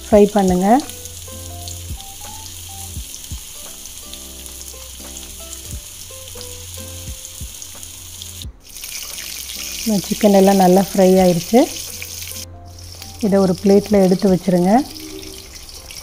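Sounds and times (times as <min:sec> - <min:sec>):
oil sizzling and crackling: 0:00.0 - 0:16.0
soft background music: 0:00.0 - 0:16.0.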